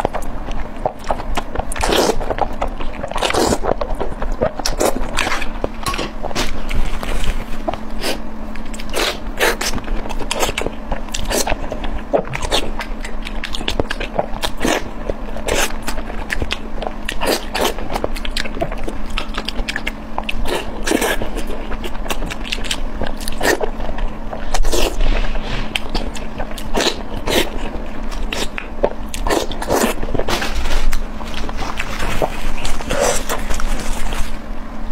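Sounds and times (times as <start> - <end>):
close-miked eating and chewing: 0.0 - 34.9.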